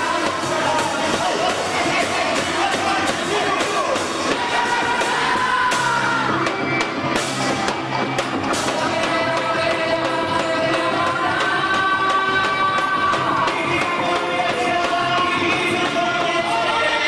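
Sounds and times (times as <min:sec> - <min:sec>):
folk music singing: 0:00.0 - 0:17.0
percussion beat: 0:00.0 - 0:17.0.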